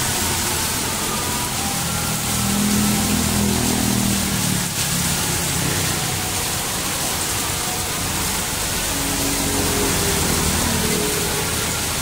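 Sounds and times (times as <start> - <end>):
heavy rain on street: 0.0 - 12.0
vehicles driving on wet road: 0.0 - 12.0.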